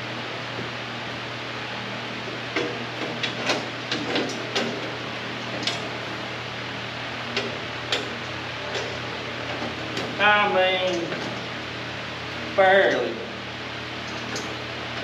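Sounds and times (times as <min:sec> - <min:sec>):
steady hiss and hum: 0:00.0 - 0:15.0.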